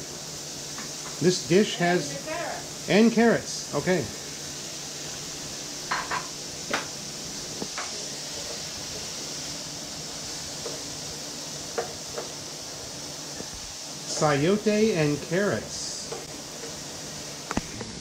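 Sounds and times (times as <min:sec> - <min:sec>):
vegetables sizzling in a skillet: 0:00.0 - 0:18.0.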